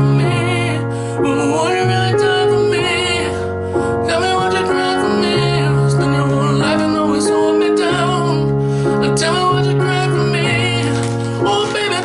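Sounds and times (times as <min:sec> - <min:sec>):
person singing: 0:00.0 - 0:12.0
piano chords: 0:00.0 - 0:12.0.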